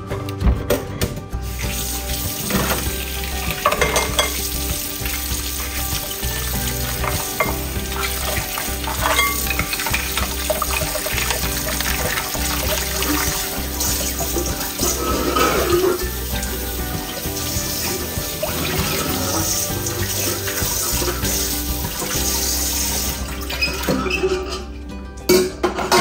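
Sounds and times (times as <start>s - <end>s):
soft background music: 0.0s - 26.0s
tap water running: 1.4s - 24.4s
sponge scrubbing glass bowl: 1.5s - 23.7s.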